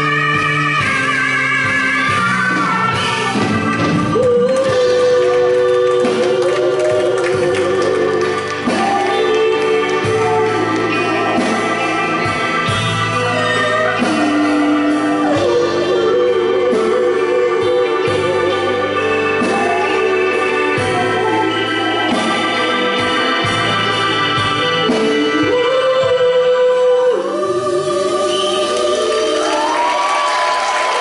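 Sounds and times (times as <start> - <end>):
keyboard chords: 0.0 - 31.0
live band playing: 0.0 - 31.0
person singing with vibrato: 0.0 - 31.0.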